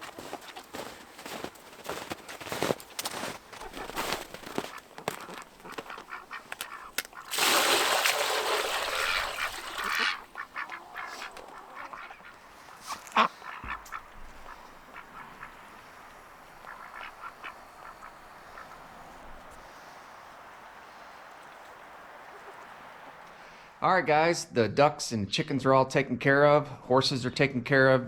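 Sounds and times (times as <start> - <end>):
ducks quacking: 0.0 - 24.2.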